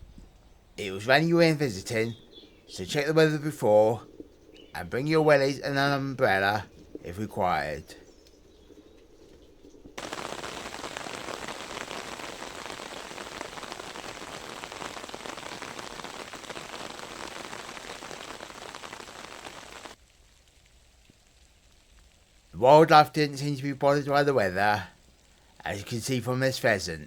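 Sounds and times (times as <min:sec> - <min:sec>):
steady rain pattering: 0:00.0 - 0:27.0.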